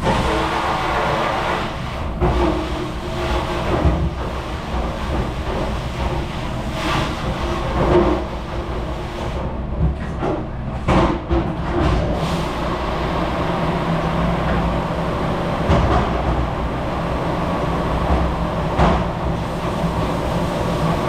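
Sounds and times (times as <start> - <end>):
loud mechanical rumble: 0.0 - 21.0.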